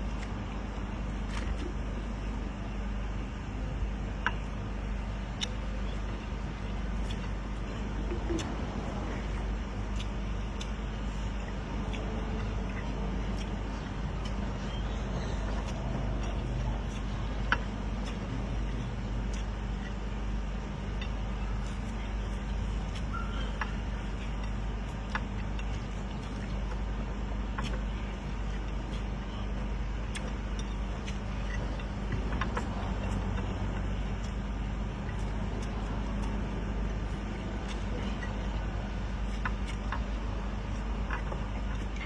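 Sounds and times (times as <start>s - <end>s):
faint clicks and ticks: 0.0s - 42.0s
steady low hum: 0.0s - 42.0s.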